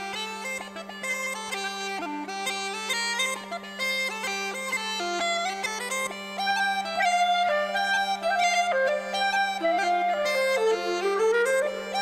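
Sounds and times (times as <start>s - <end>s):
bagpipe drone: 0.0s - 12.0s
pipes and clarinet melody: 0.0s - 12.0s.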